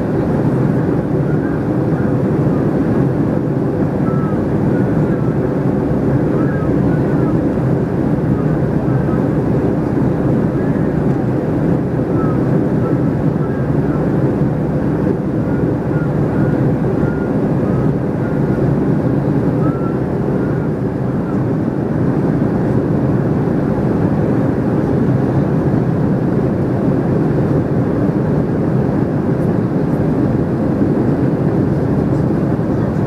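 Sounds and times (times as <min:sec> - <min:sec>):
airplane cabin engine drone: 0:00.0 - 0:33.0.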